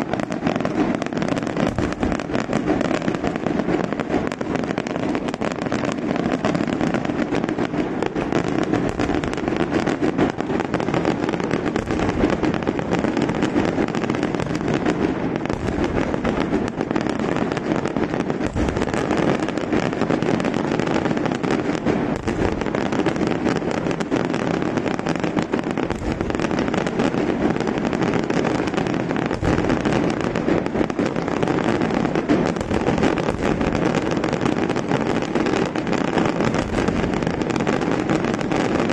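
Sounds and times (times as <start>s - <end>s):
fireworks crackling bangs: 0.0s - 38.9s
heavy fireworks booms: 0.0s - 38.9s.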